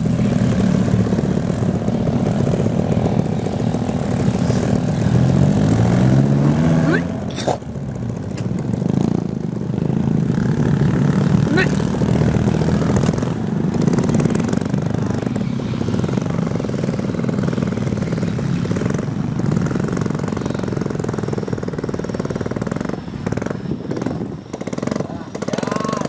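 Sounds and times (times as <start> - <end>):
diesel truck engine running hard: 0.0 - 26.0.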